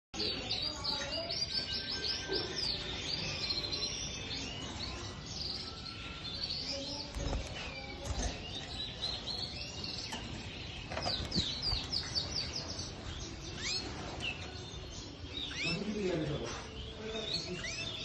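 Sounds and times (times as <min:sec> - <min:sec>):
canary singing trills: 0:00.2 - 0:18.0.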